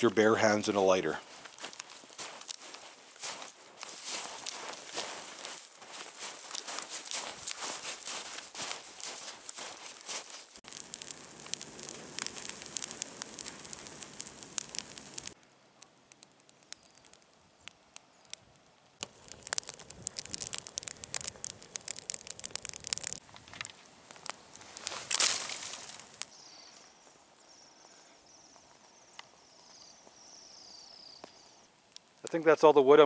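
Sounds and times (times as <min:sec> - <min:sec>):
fire crackling and popping: 0:00.4 - 0:33.0.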